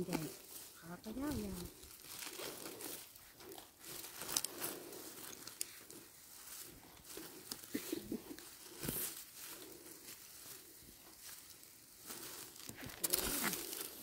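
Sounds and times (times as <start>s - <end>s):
rustling on forest floor: 0.0s - 14.0s.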